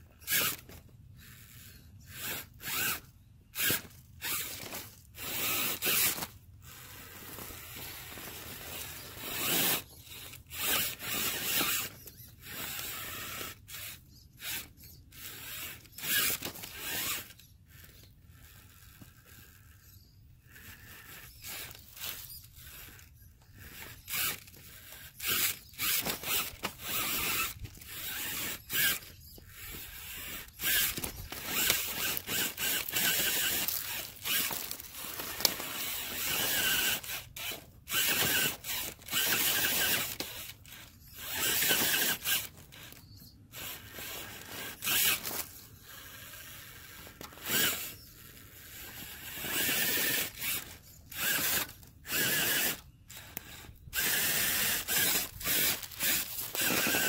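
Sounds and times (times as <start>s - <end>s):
electric motor whining: 0.2s - 57.0s.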